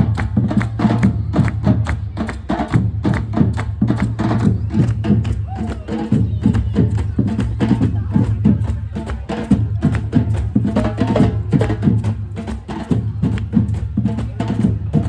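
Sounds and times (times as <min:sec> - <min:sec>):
street band drums and percussion: 0:00.0 - 0:15.0.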